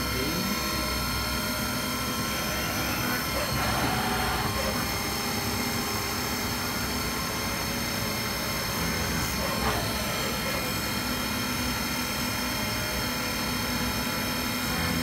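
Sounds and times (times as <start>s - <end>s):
milling machine humming and whining: 0.0s - 15.0s.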